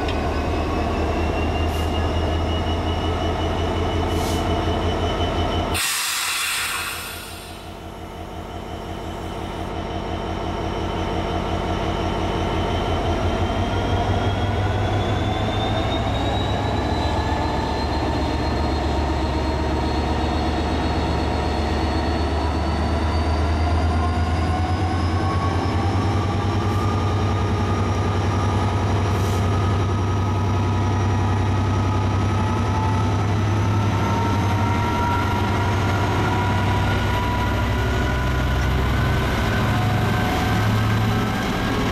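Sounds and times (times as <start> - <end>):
engine whine rising in pitch: 0.0 - 5.7, 10.6 - 41.9
diesel locomotive engine drone: 0.0 - 41.9.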